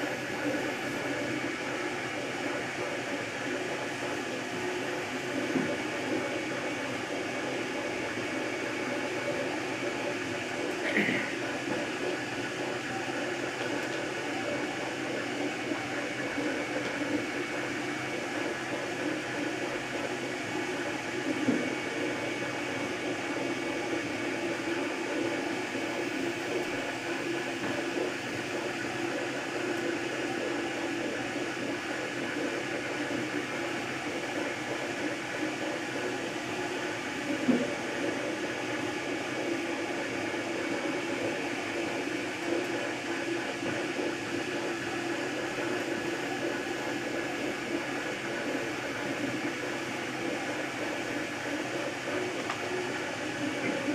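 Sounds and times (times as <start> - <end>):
cooling fan hum: 0.0 - 53.9.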